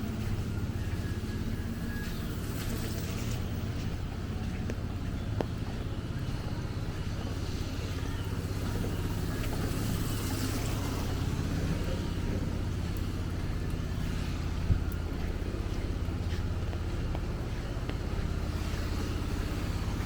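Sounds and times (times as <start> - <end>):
motor vehicle rumbling: 0.0 - 20.0
street noise: 0.0 - 20.0.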